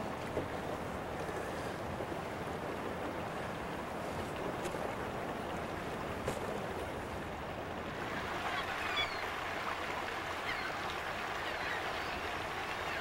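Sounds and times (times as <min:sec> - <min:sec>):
light water splashes: 0:00.0 - 0:13.0
small waves lapping: 0:00.0 - 0:13.0
wind: 0:00.0 - 0:13.0.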